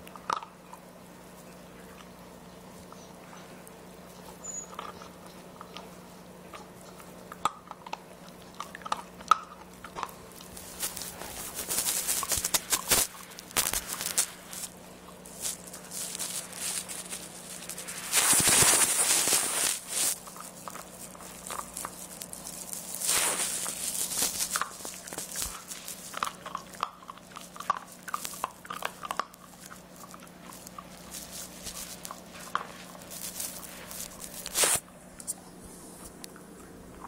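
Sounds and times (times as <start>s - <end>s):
puppy chewing a treat: 0.0s - 37.0s
rustling: 1.3s - 36.3s.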